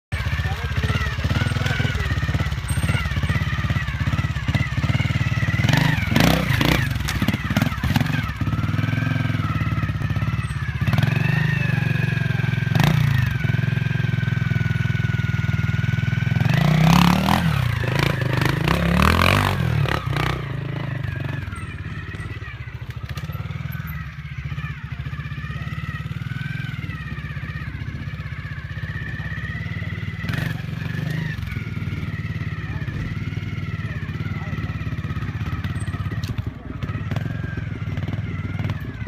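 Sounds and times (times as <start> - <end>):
motorcycle engine revving: 0.1 - 39.0.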